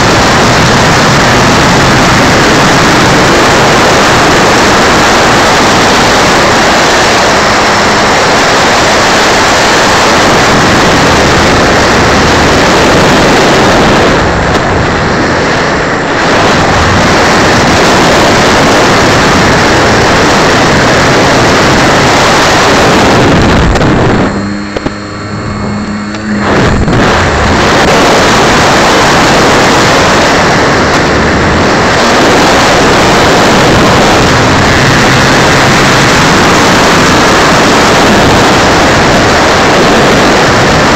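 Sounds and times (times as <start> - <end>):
electric motor and propeller: 0.0 - 40.9
steady tones: 0.0 - 40.9
wind rushing: 0.0 - 40.9.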